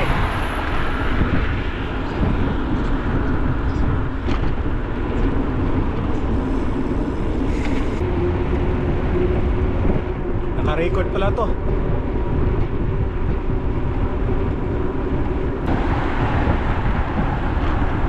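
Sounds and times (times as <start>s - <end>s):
bicycle road noise: 0.0s - 18.0s
wind on microphone: 0.0s - 18.0s.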